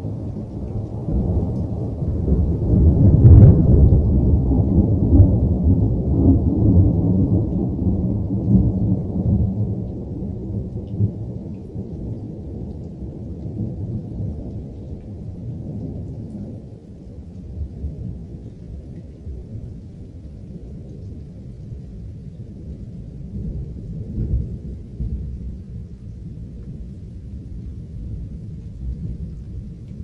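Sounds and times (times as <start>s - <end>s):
deep thunder-like rumble: 0.0s - 30.0s.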